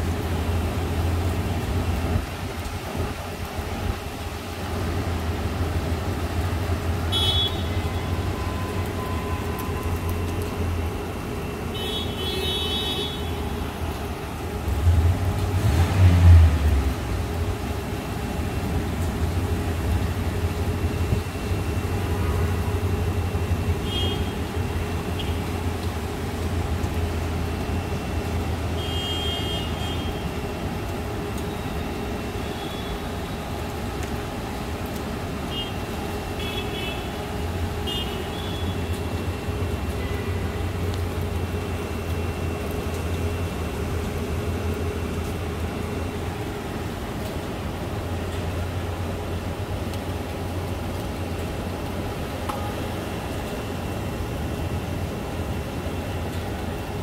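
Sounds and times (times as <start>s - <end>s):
cars driving through deep water: 0.0s - 57.0s
rain: 0.0s - 57.0s.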